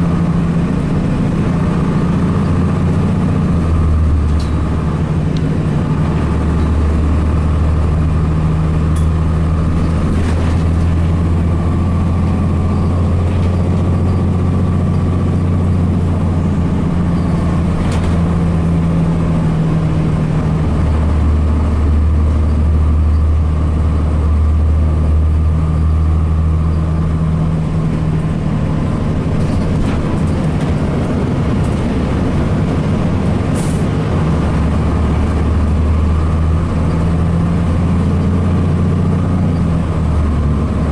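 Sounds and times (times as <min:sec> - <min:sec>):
diesel bus engine droning: 0:00.0 - 0:40.9.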